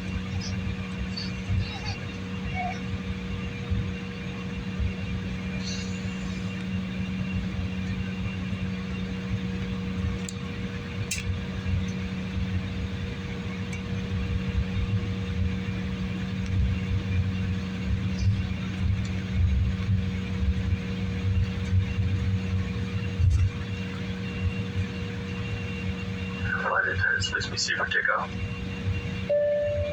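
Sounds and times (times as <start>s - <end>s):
aircraft engines hum in cabin: 0.0s - 29.9s.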